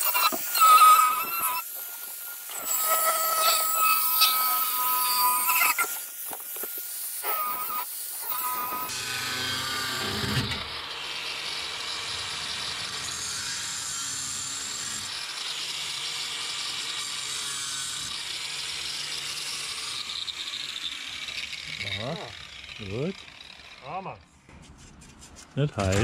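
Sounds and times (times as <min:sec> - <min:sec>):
angle grinder cutting metal: 0:00.0 - 0:24.4.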